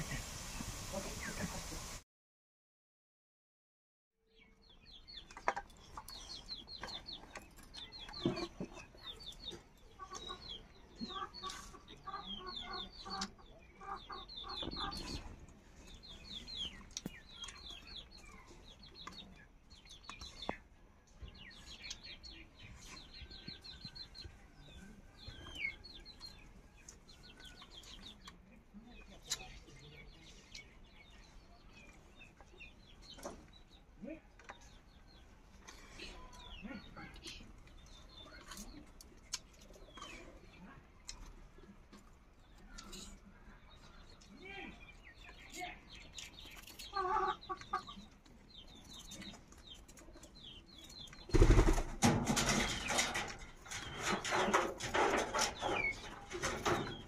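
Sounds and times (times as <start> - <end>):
chickens clucking: 0.0 - 2.0, 4.4 - 57.0
birds chirping: 4.3 - 57.0.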